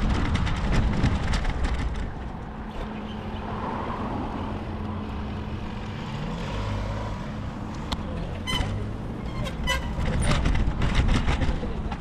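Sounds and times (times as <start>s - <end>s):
traffic engine drone: 0.0s - 12.0s.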